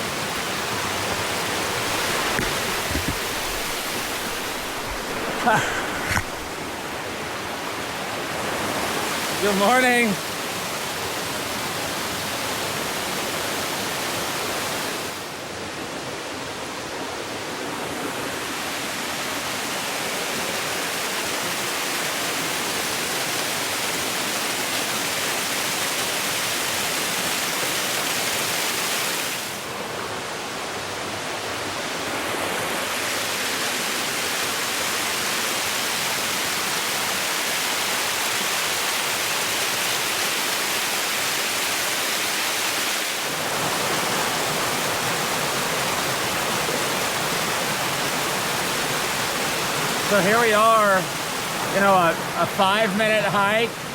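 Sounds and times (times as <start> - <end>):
waterfall rushing over rocks: 0.0 - 53.9.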